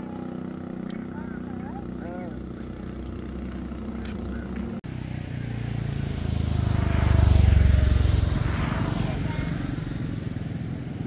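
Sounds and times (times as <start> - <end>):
deep engine rumble: 0.0 - 11.0
vehicle engine running: 0.0 - 11.0.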